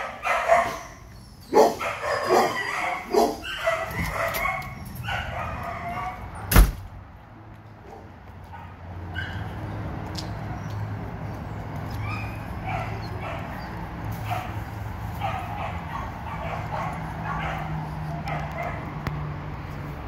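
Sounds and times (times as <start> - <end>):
dogs barking and yipping: 0.0 - 6.5, 7.8 - 19.1.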